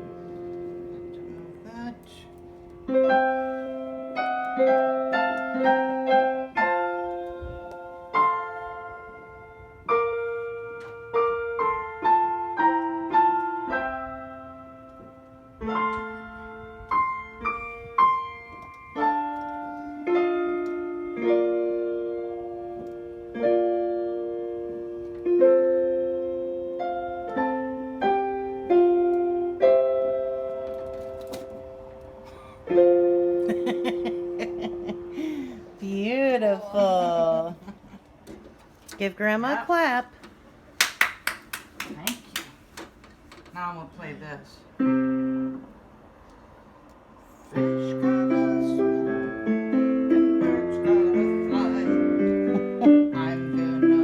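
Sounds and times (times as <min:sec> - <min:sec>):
electronic keyboard melody: 0:00.0 - 0:35.9, 0:44.8 - 0:45.9, 0:47.6 - 0:54.0.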